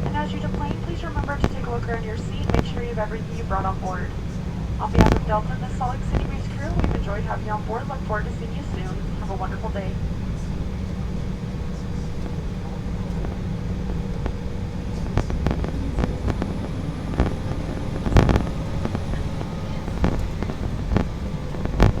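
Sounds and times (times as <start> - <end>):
airplane cabin rumble: 0.0 - 22.0
faint steady hum: 0.0 - 22.0.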